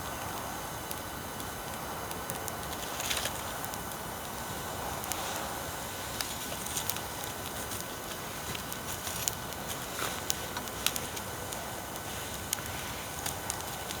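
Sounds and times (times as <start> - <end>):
fire rushing hiss: 0.0 - 14.0
wood fire crackling and popping: 0.0 - 14.0.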